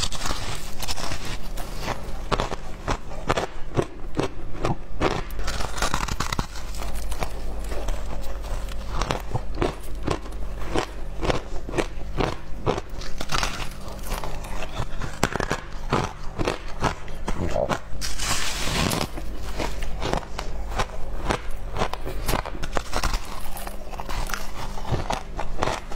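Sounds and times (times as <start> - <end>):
shaved ice being chewed: 0.0 - 25.9.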